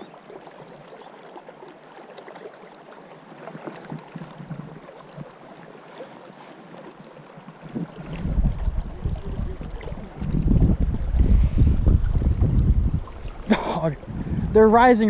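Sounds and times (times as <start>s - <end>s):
river water flowing and babbling: 0.0s - 15.0s.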